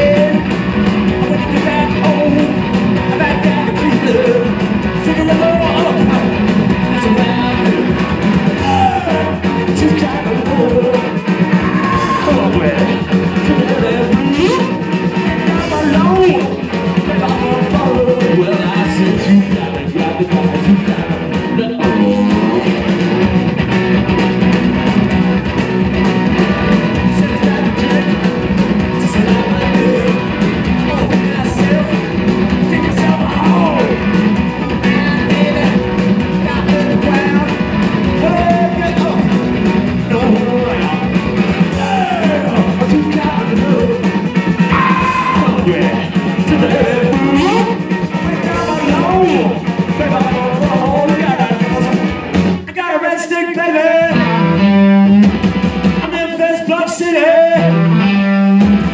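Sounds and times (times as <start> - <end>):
man singing: 0.0 - 23.0, 26.9 - 55.1, 56.0 - 58.4
drums: 0.0 - 58.9
electric guitars: 0.0 - 58.9.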